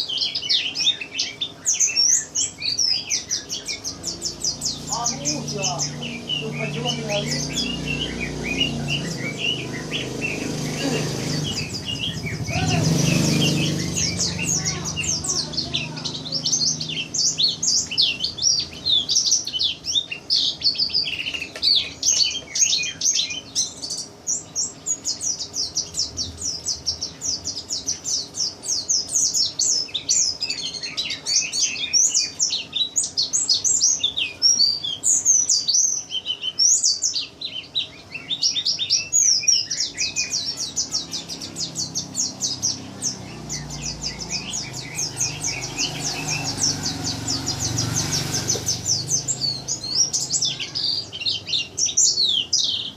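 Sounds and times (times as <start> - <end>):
bird twittering song: 0.0 - 52.9.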